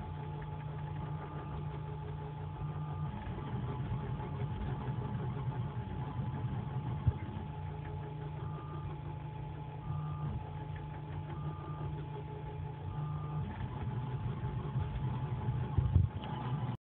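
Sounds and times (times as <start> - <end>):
print head whine: 0.0 - 16.8
printer stepper motor hum: 0.0 - 16.8.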